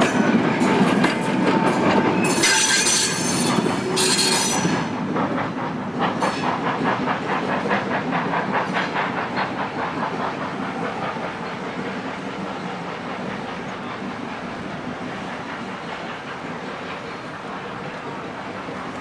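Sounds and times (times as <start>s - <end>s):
steady hiss of steam: 0.0s - 19.0s
steam locomotive chuffing: 0.0s - 19.0s.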